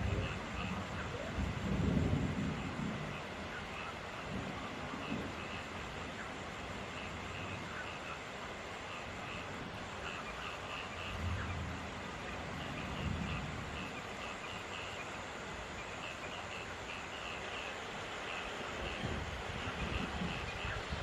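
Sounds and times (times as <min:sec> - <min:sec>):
frogs croaking: 0:00.0 - 0:21.0
steady rainfall: 0:00.0 - 0:21.0.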